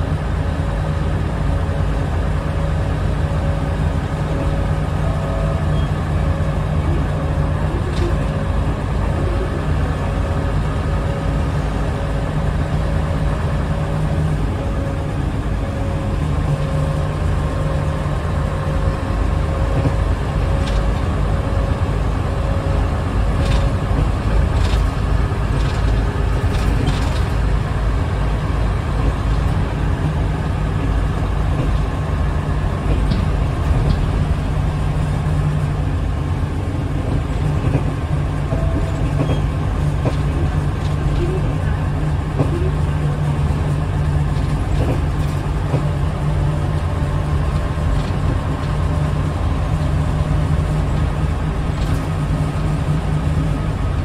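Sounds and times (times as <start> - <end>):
diesel engine and road rumble: 0.0 - 54.0.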